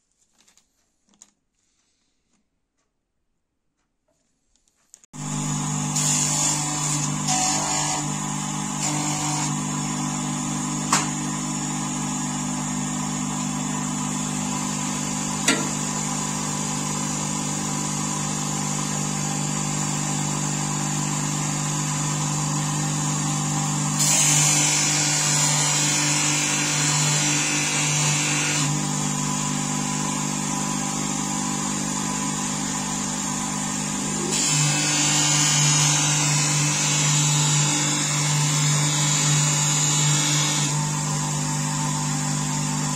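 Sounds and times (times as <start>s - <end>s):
bench grinder motor humming: 5.2s - 42.9s.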